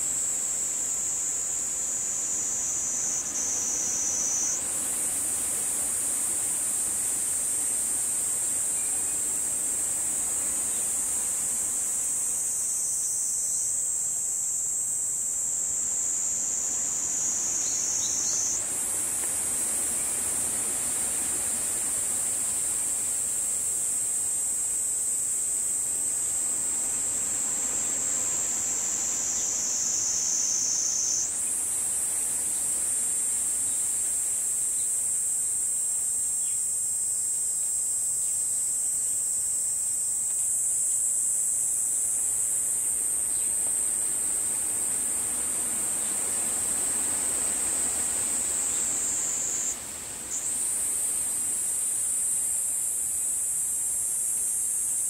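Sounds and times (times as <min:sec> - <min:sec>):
insects buzzing drone: 0:00.0 - 0:55.0.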